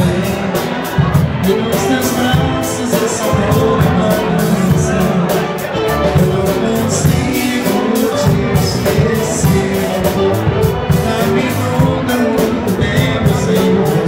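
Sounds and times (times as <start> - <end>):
live band music: 0.0 - 14.0
man singing: 0.0 - 14.0.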